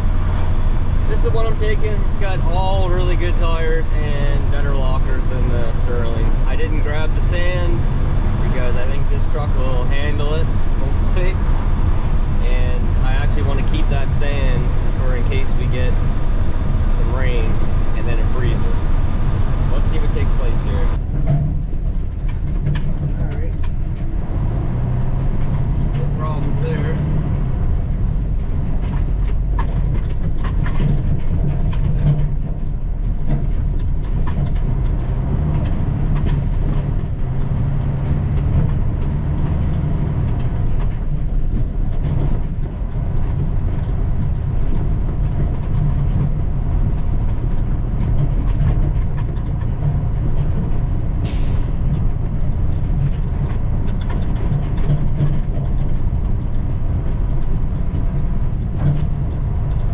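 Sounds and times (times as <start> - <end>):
diesel truck engine running: 0.0 - 59.9
truck rattles and knocks: 0.0 - 59.9.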